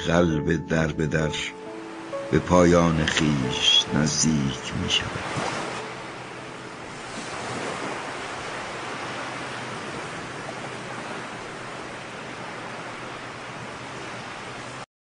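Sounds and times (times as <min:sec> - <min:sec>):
ocean surf rushing: 0:00.7 - 0:14.9.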